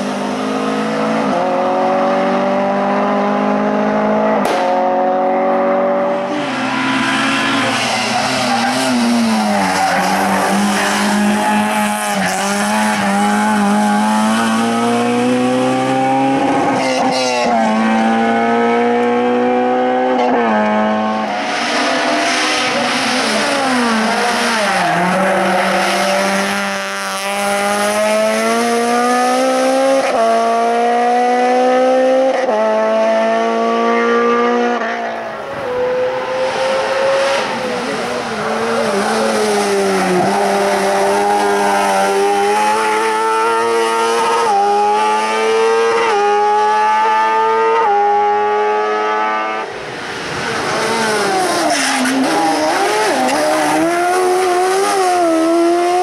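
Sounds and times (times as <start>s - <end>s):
race car engines at full throttle: 0.0s - 56.0s.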